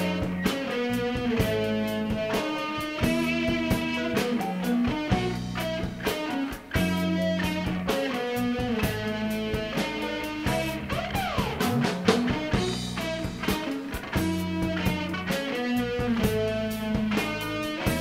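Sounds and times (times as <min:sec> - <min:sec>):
electric guitar chords: 0:00.0 - 0:18.0
rock band playing live: 0:00.0 - 0:18.0
drum hits: 0:01.2 - 0:18.0.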